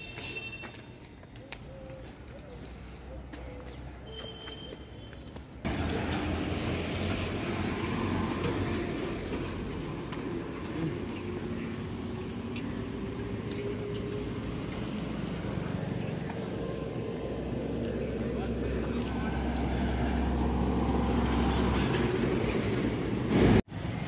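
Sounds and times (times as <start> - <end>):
vehicle engine rumble: 0.2 - 24.0.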